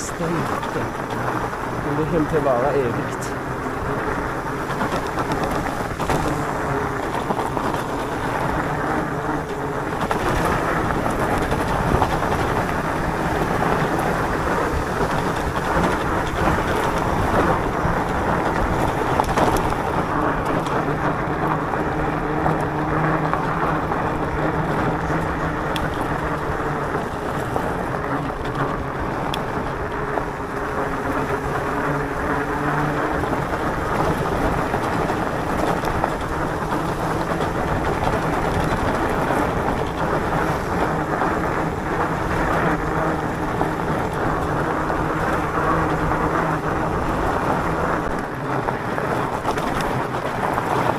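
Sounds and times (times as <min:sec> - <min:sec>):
tyres rumbling on gravel: 0:00.0 - 0:50.9
wind on microphone: 0:00.0 - 0:50.9.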